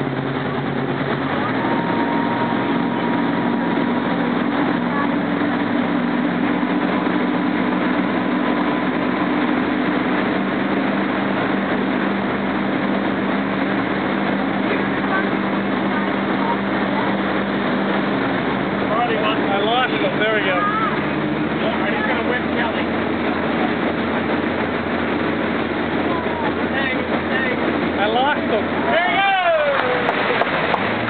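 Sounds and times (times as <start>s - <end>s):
churning wake water: 0.0s - 31.0s
motorboat engine running: 0.0s - 31.0s
wind: 0.0s - 31.0s.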